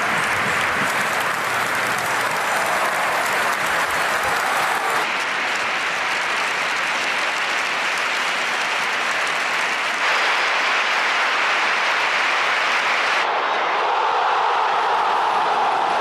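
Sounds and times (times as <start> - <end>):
stadium crowd applauding: 0.0 - 16.0.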